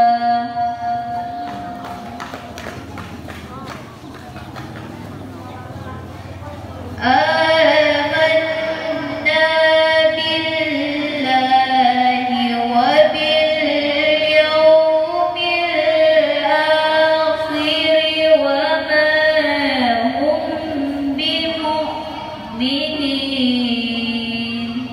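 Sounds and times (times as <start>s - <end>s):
woman chanting into a microphone: 0.0s - 2.2s, 6.7s - 24.9s.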